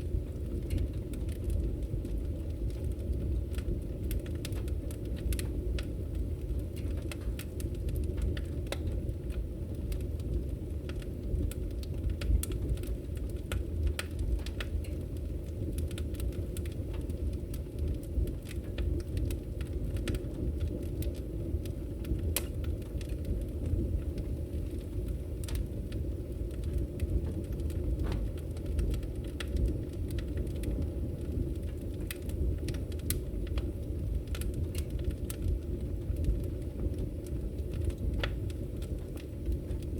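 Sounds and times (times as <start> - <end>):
burning logs crackling and popping: 0.0 - 39.9
flames rumbling: 0.0 - 39.9.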